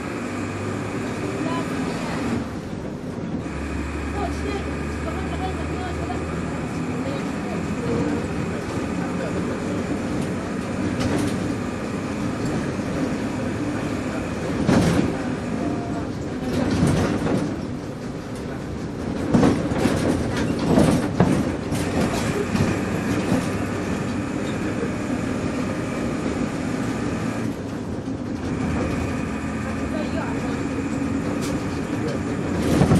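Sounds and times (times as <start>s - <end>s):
bus body rattling: 0.0s - 32.9s
bus engine running: 0.0s - 32.9s.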